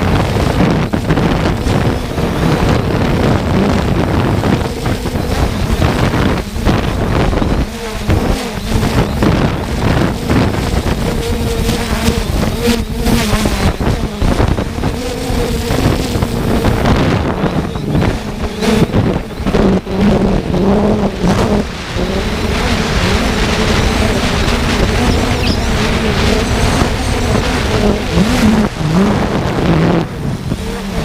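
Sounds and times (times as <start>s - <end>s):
drone propellers humming: 0.0s - 31.0s
wind buffeting the microphone: 0.0s - 31.0s.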